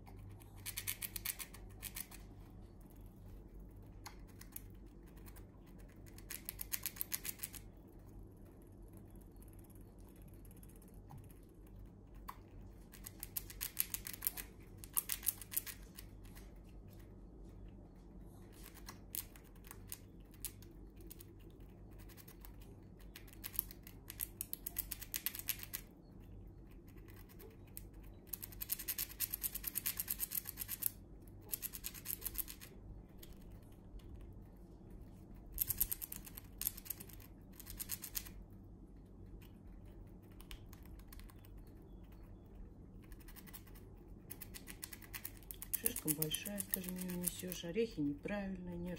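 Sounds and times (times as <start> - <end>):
squirrel cracking nut shells: 0.0 - 17.1, 18.5 - 34.6, 35.4 - 47.7.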